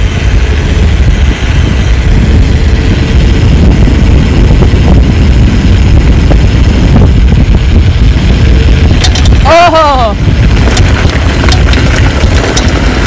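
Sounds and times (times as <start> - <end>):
wind buffeting microphone: 0.0 - 13.0
faint ticks and rattles: 0.1 - 13.0.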